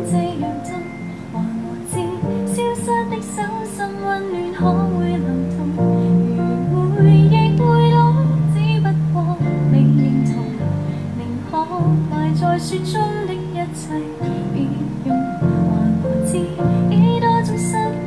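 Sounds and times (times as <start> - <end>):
bass line: 0.0 - 3.6, 4.6 - 18.0
woman singing: 0.0 - 18.0.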